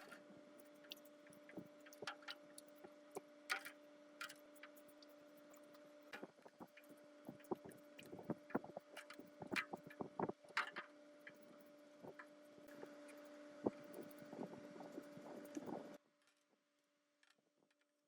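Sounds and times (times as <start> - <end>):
steady two-tone hum: 0.0 - 16.0.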